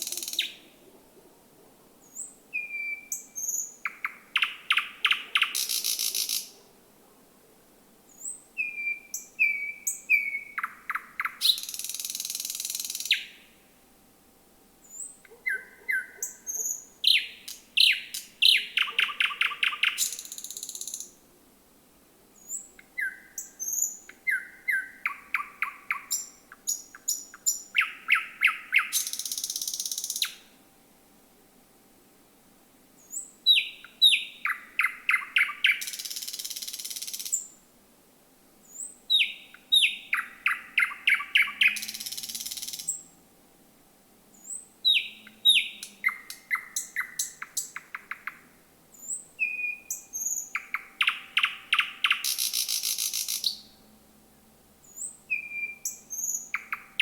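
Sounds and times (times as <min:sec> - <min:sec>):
nightingale singing: 0:00.0 - 0:00.8, 0:02.0 - 0:06.7, 0:08.1 - 0:13.6, 0:14.8 - 0:21.2, 0:22.4 - 0:30.6, 0:33.0 - 0:37.6, 0:38.6 - 0:43.2, 0:44.3 - 0:53.9, 0:54.8 - 0:57.0.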